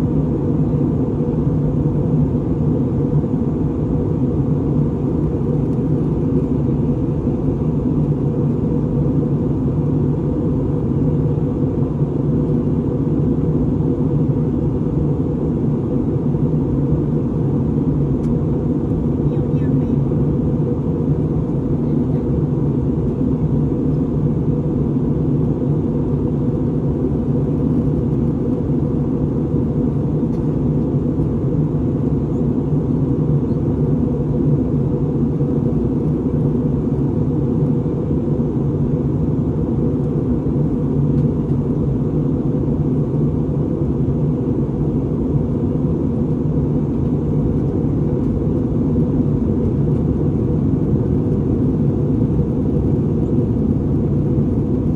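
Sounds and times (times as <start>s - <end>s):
aircraft cabin rumble: 0.0s - 54.9s.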